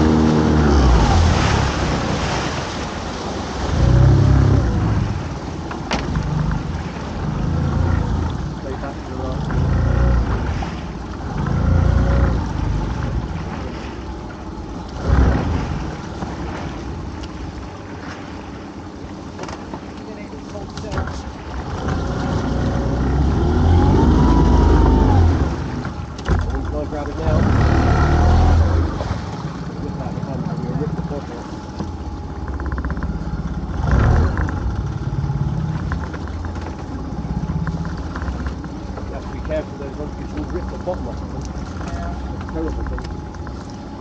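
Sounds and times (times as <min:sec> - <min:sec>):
boat engine low rumble: 0:00.0 - 0:44.0
outboard motor running: 0:00.0 - 0:44.0
sea water around hull: 0:00.0 - 0:44.0.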